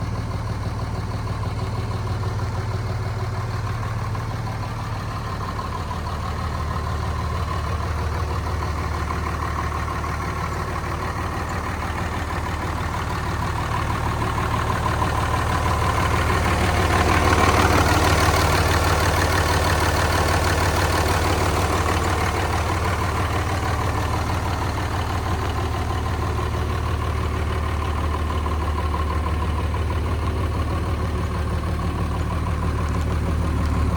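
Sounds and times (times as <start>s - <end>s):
diesel engine idling with clatter: 0.0s - 33.9s.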